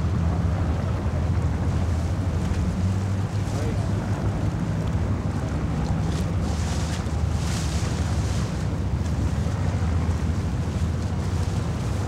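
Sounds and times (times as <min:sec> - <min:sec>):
boat engine droning: 0:00.0 - 0:12.0
water rushing past hull: 0:00.0 - 0:12.0.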